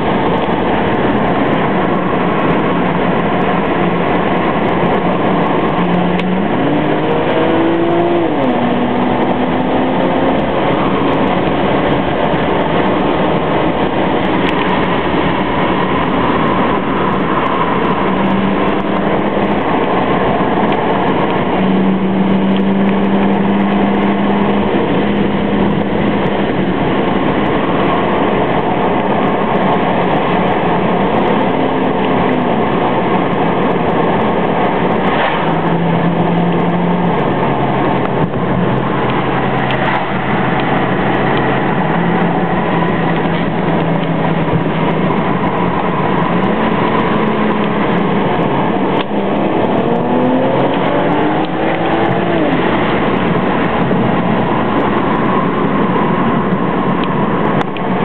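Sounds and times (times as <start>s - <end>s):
car engine running: 0.0s - 58.0s
loud wind noise: 0.0s - 58.0s
road noise: 0.0s - 58.0s.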